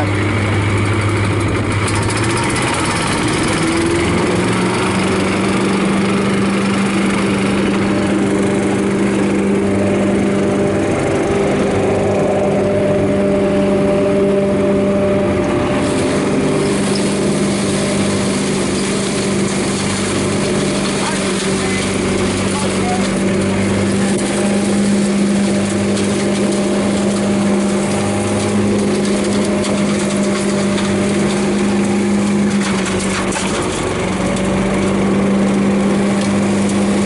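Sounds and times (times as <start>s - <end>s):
petrol engine running: 0.0s - 37.0s.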